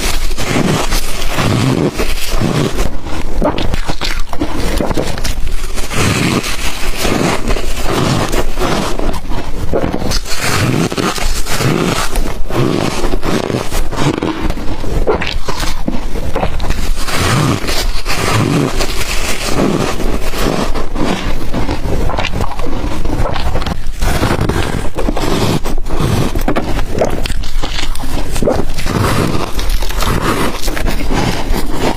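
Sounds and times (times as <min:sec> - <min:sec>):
ice crunching: 0:00.0 - 0:31.9
swallowing gulps: 0:00.0 - 0:31.9.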